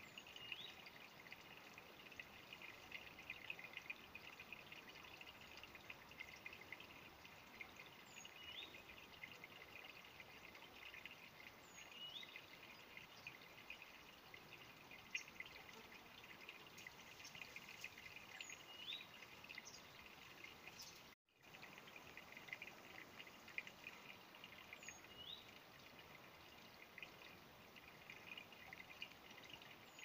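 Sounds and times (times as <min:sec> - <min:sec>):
stream trickling: 0:00.0 - 0:30.0.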